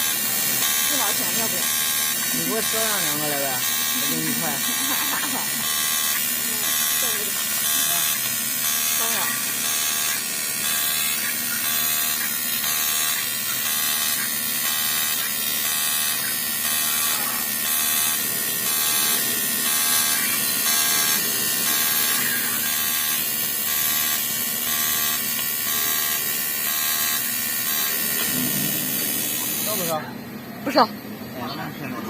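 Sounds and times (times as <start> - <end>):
welding arc buzzing and hissing: 0.0 - 30.8.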